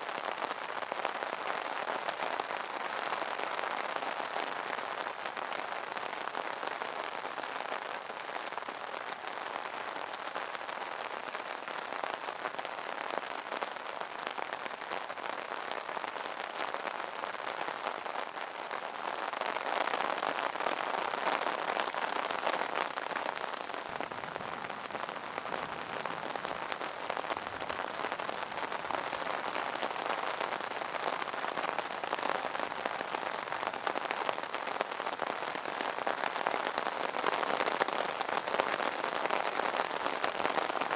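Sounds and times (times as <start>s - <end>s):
rain pattering on an umbrella: 0.0s - 40.9s.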